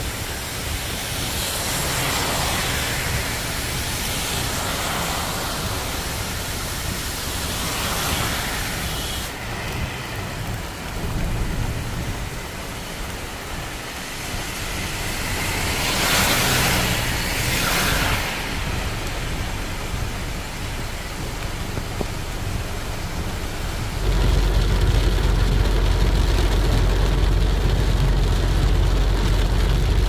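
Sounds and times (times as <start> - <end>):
car driving on wet road: 0.0 - 30.0
rain: 0.0 - 30.0.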